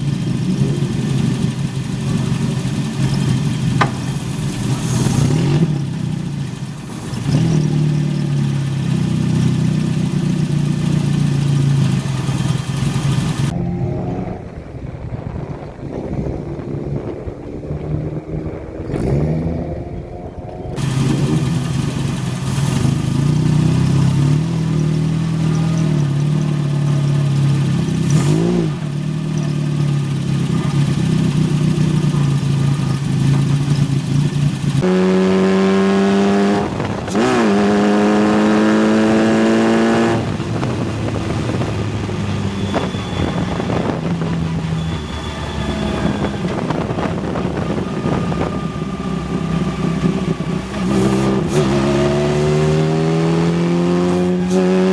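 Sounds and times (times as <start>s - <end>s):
race car engine running hard: 0.0s - 54.9s.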